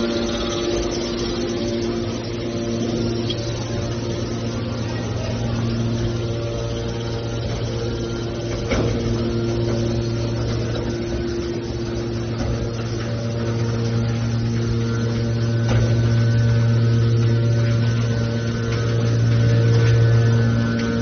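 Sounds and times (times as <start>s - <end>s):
baler motor hum: 0.0s - 21.0s
hydraulic pump tone: 0.0s - 21.0s.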